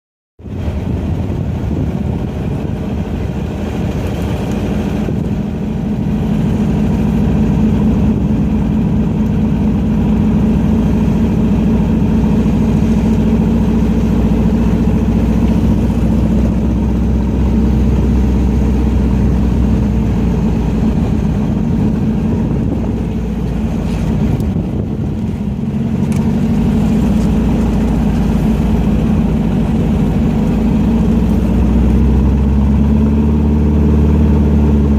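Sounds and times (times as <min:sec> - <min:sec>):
car engine running hard: 0:00.4 - 0:34.9.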